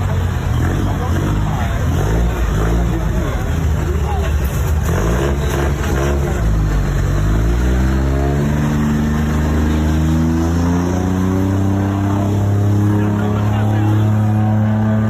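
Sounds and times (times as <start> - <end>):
truck engine accelerating: 0.0 - 15.0.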